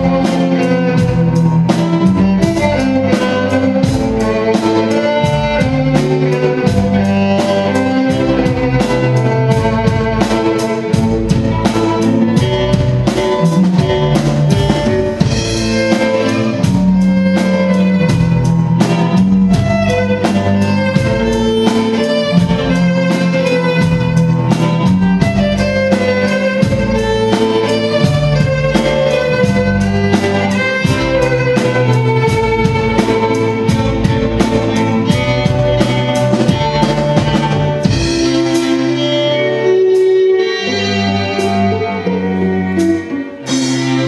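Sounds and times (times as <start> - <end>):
bass: 0.0 - 44.0
guitar: 0.0 - 44.0
steady drum beat: 0.0 - 44.0
violins playing melody: 0.0 - 44.0.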